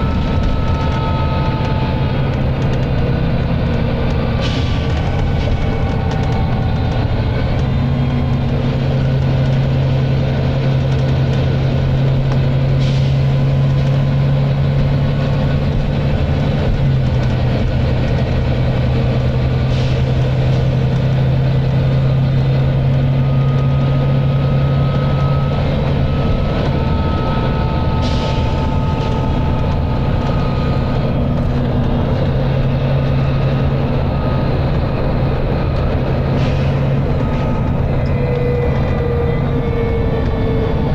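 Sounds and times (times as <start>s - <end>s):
bus diesel engine thrashing: 0.0s - 39.6s
rumble of moving bus: 0.0s - 40.9s.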